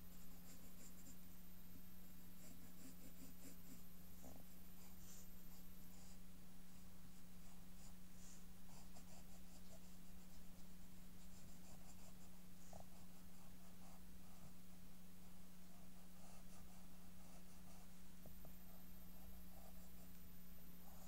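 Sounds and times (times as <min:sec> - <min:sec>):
steady low hum: 0:00.0 - 0:21.0
pencil scratching on paper: 0:00.1 - 0:01.3, 0:02.2 - 0:06.2, 0:07.4 - 0:14.7, 0:15.6 - 0:21.0.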